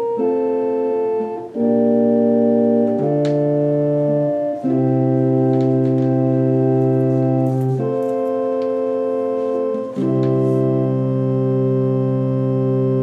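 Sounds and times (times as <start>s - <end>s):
electronic organ playing hymn chords: 0.0s - 13.0s.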